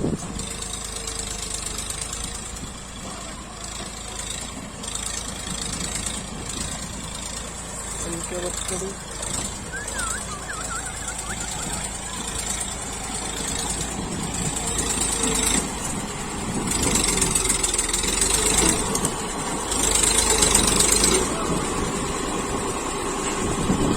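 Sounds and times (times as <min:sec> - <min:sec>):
tractor diesel engine working hard: 0:00.0 - 0:23.9.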